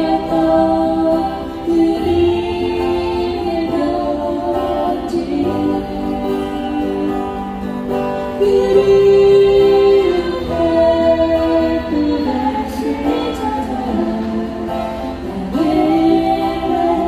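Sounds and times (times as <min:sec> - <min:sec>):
acoustic guitar: 0:00.0 - 0:17.0
person singing: 0:00.0 - 0:17.0.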